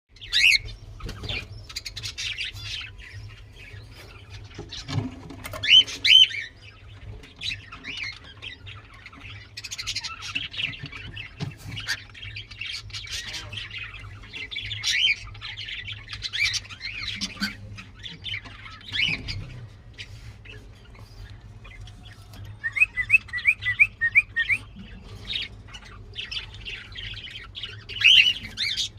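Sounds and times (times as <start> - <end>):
cockatiels chirping and squawking: 0.2 - 28.9.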